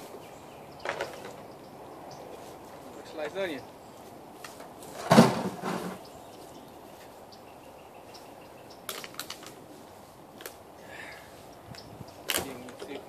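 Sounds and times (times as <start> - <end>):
quiet outdoor background: 0.0 - 13.0.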